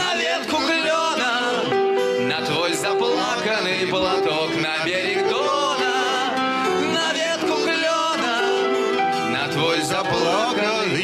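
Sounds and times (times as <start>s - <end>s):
acoustic guitar: 0.0s - 11.0s
man singing slow sad song: 0.0s - 11.0s
piano: 0.0s - 11.0s.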